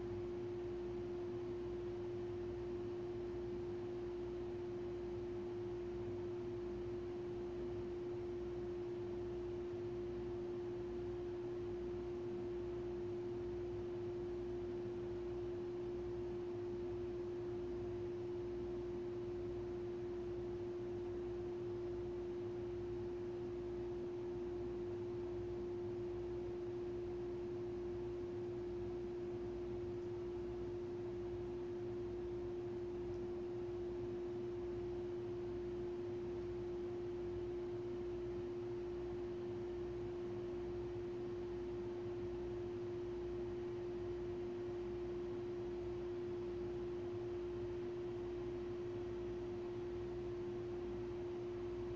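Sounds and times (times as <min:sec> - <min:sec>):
faint low hum: 0:00.0 - 0:51.9
steady pure tone: 0:00.0 - 0:51.9.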